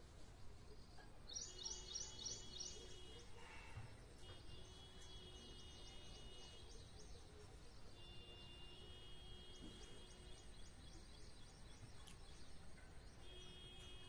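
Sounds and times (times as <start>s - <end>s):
outdoor background noise: 0.0s - 14.0s
bird chirps: 0.4s - 14.0s.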